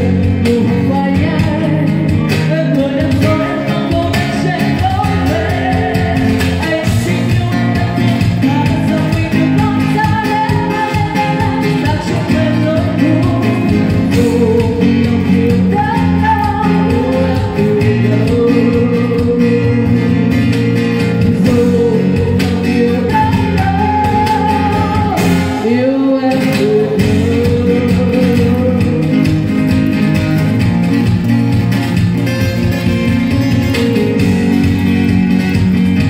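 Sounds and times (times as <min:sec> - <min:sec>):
woman singing a ballad: 0:00.0 - 0:29.8
cajon: 0:00.0 - 0:36.0
strummed acoustic guitar: 0:00.0 - 0:36.0.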